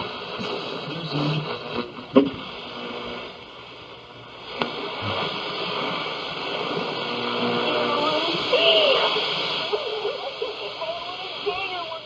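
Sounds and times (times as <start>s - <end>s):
hissing static: 0.0s - 12.0s.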